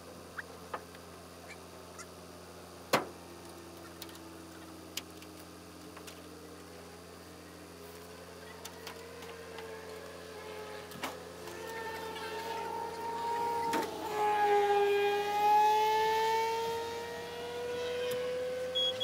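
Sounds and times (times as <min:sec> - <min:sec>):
engine idling with low hum: 0:00.0 - 0:19.0
faint rising whine: 0:00.0 - 0:19.0.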